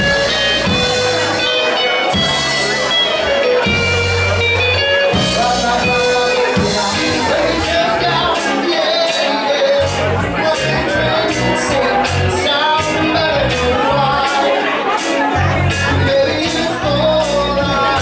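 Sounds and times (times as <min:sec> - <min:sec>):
live rock band playing: 0:00.0 - 0:18.0
person singing: 0:00.0 - 0:18.0.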